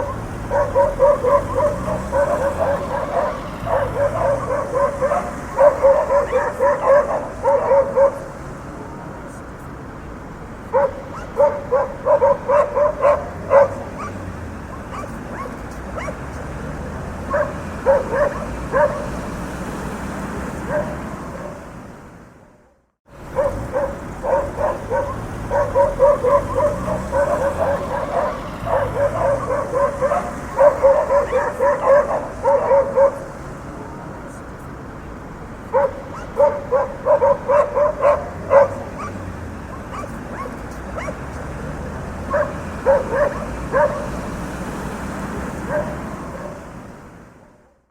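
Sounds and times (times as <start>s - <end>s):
dogs barking: 0.0s - 9.4s, 10.6s - 21.9s, 23.2s - 34.4s, 35.4s - 47.0s
low rumble of street traffic: 0.0s - 47.9s.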